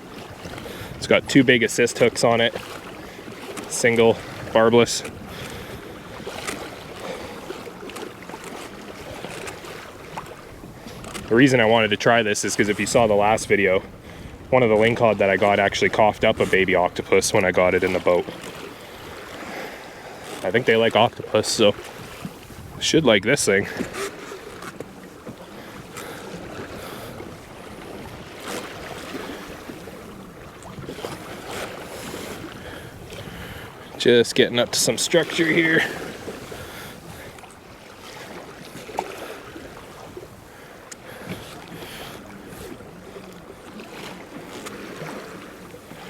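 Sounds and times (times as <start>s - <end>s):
choppy water washing: 0.0s - 46.0s
water slapping against hull: 0.0s - 46.0s
wind: 0.0s - 46.0s.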